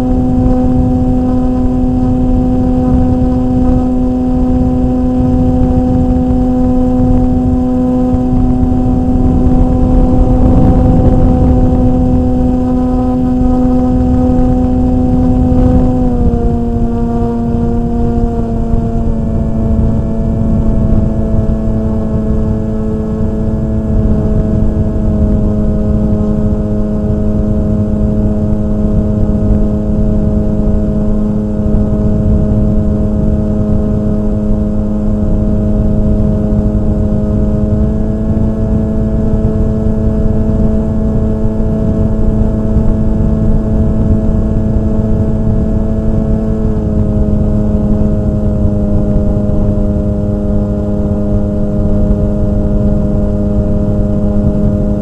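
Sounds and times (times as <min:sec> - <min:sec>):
model aircraft motor humming: 0:00.0 - 0:55.0
wind rumbling on microphone: 0:00.0 - 0:55.0.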